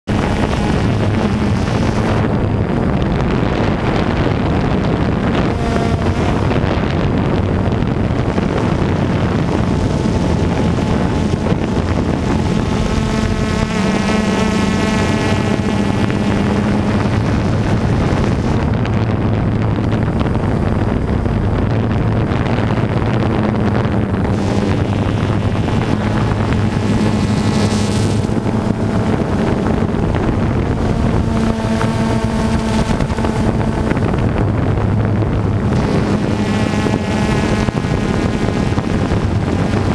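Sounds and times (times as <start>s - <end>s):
drone propellers humming: 0.0s - 39.9s
wind on microphone: 0.0s - 39.9s.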